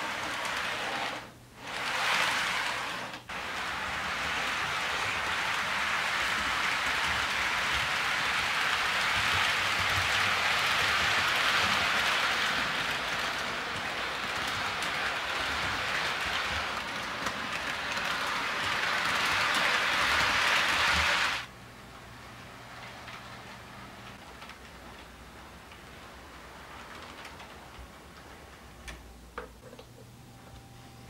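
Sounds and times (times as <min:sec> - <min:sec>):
model train cars rolling on track: 0:00.0 - 0:29.0.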